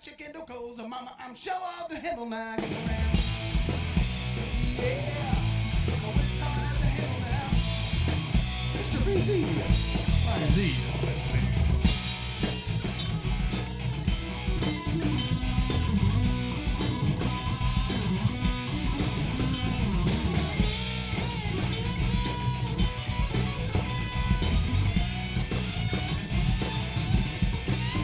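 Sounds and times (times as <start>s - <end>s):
drums: 2.4s - 28.0s
bass guitar: 2.6s - 28.0s.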